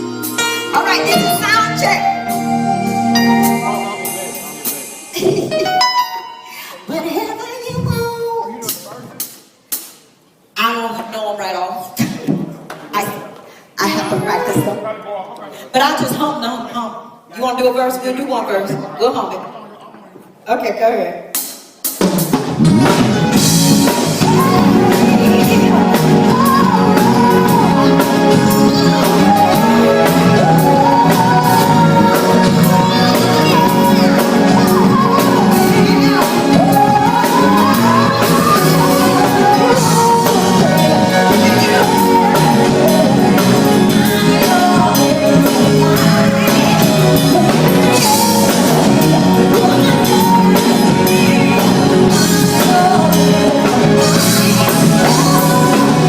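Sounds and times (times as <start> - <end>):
live band playing: 0.0 - 12.2, 13.0 - 15.0, 20.9 - 56.0.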